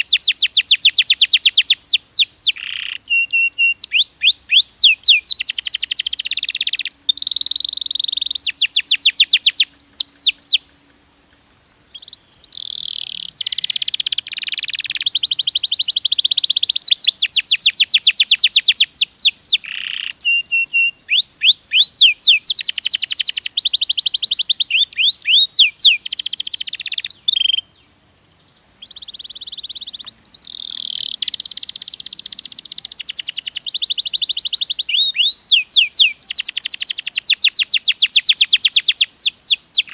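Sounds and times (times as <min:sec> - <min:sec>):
canary singing trills: 0:00.0 - 0:10.8, 0:11.9 - 0:39.9.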